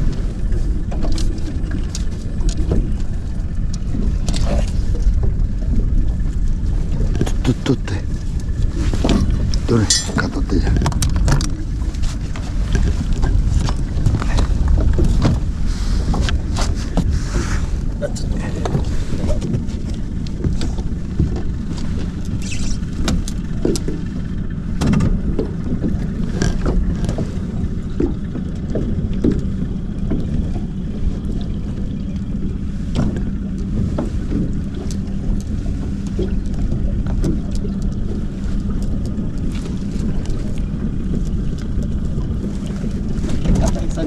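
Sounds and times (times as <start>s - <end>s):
boat engine humming: 0.0s - 44.0s.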